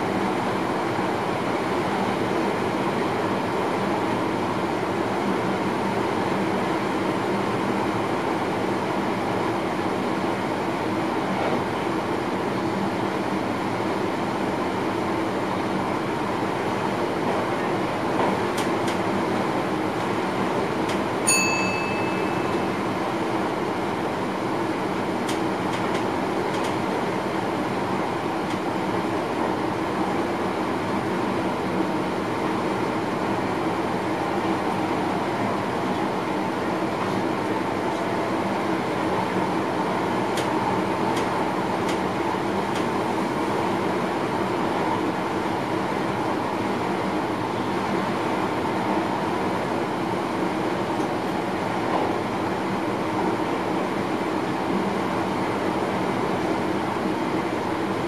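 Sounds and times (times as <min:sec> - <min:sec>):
train running noise: 0:03.0 - 0:58.0.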